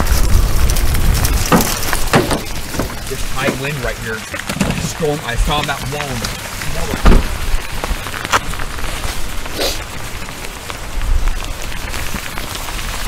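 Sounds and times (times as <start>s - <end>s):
raindrops ticking nearby: 0.0s - 13.0s
steady rain: 0.0s - 13.0s
storm wind buffeting microphone: 0.0s - 13.0s.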